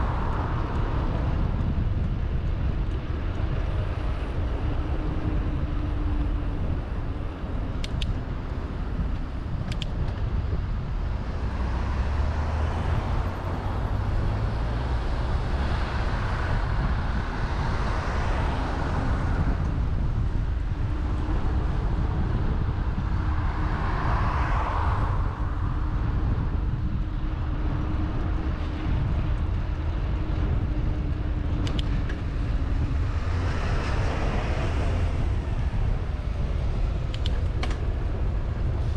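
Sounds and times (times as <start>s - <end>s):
road traffic passing: 0.0s - 38.9s
wind rumbling on microphone: 0.0s - 38.9s.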